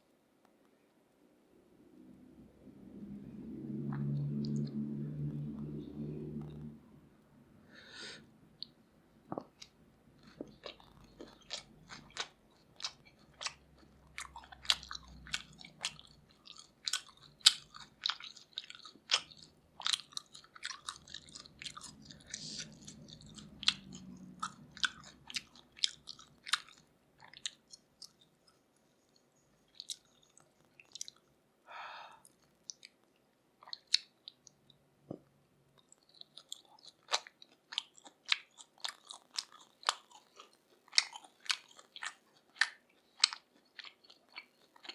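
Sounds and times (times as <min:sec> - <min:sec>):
person chewing with wet clicks: 0:03.8 - 0:06.7, 0:08.6 - 0:31.3, 0:32.2 - 0:44.9.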